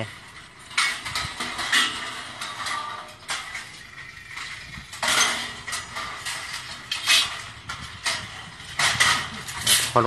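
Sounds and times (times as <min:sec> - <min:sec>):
metal pipes clanking: 0:00.0 - 0:10.0.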